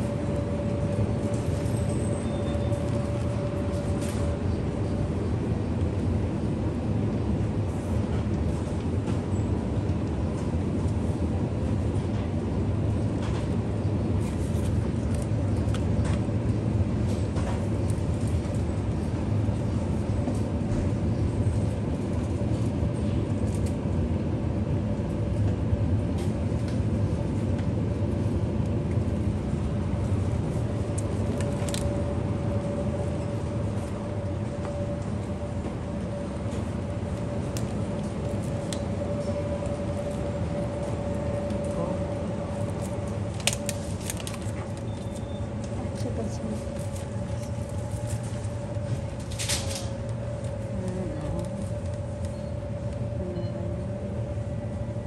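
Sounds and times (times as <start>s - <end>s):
low rumble of store machinery: 0.0s - 55.0s.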